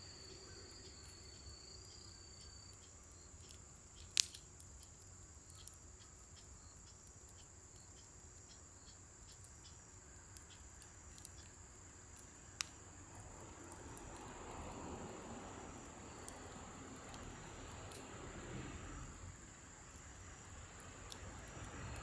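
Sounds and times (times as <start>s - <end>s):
crickets chirping: 0.0s - 22.0s
fire crackling: 0.0s - 22.0s.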